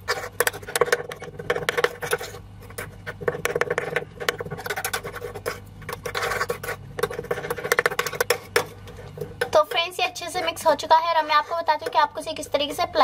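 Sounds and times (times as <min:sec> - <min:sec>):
metal spoon scraping a bowl: 0:00.0 - 0:10.6.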